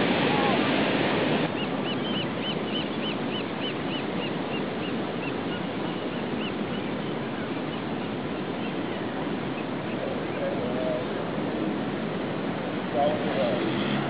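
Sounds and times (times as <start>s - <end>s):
steady rushing background noise: 0.0s - 6.2s, 7.1s - 14.0s.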